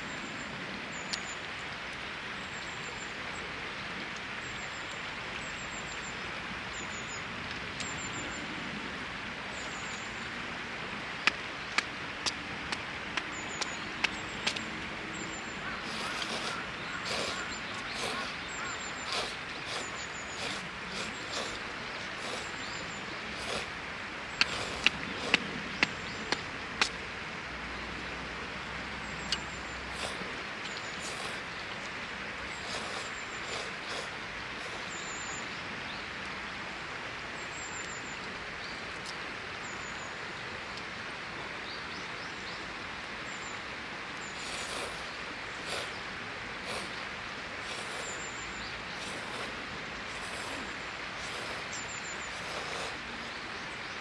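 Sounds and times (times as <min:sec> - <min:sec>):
steady rushing water: 0:00.0 - 0:54.0.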